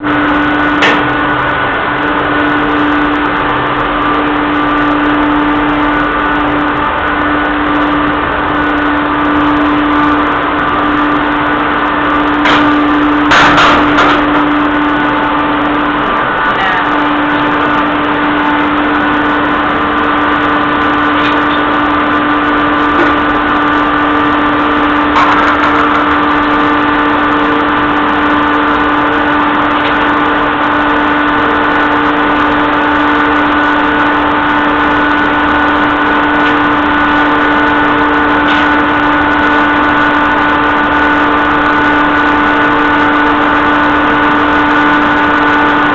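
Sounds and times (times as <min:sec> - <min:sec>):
baling press machine drone: 0:00.0 - 0:45.9.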